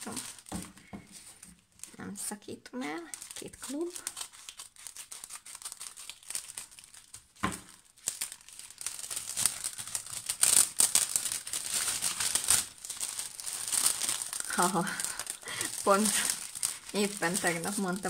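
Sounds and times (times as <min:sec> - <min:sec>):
plastic crinkling: 0:00.0 - 0:18.0.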